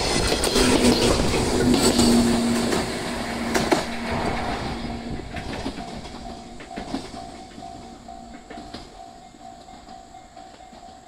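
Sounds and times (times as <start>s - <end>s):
electric train pulling away: 0.0s - 11.0s
level-crossing alarm ringing: 0.0s - 11.0s
train wheels clacking over rail joints: 0.0s - 11.0s.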